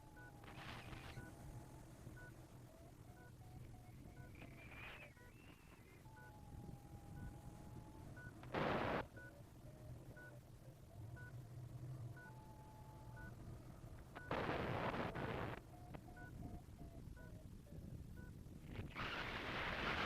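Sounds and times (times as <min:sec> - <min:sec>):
variometer beeping: 0:00.0 - 0:18.4
wind rumbling on microphone: 0:00.0 - 0:20.0.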